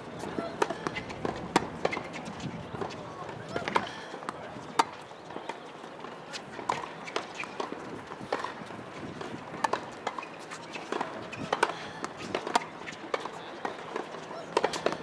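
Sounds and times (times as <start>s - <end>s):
tennis balls struck and bouncing: 0.6s - 15.0s.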